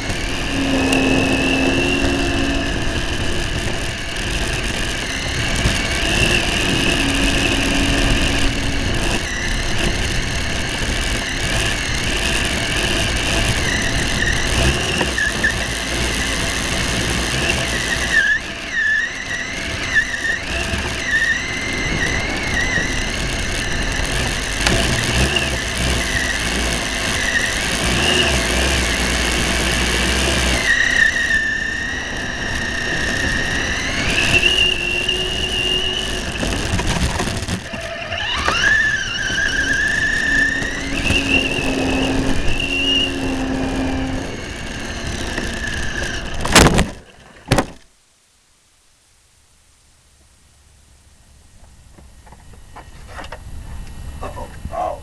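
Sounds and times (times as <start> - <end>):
model plane motor whining: 0.0 - 47.8
wind rumbling on microphone: 0.0 - 47.8, 52.0 - 55.0.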